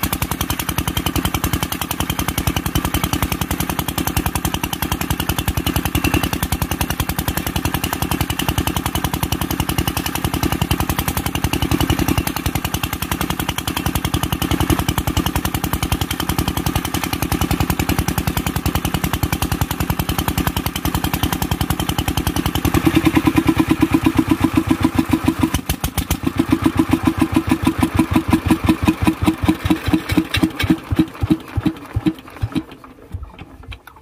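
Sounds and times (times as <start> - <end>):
diesel engine running down: 0.0 - 33.9.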